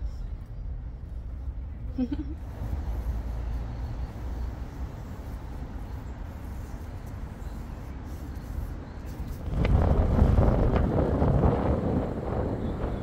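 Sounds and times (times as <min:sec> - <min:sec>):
low urban rumble: 0:00.0 - 0:13.0.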